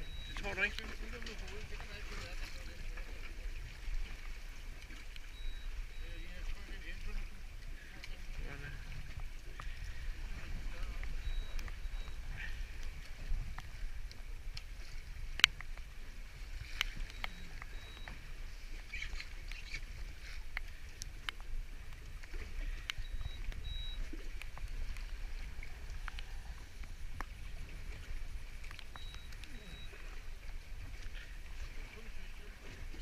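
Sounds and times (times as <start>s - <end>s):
choppy water: 0.0s - 33.0s
wind and sea rumble: 0.0s - 33.0s.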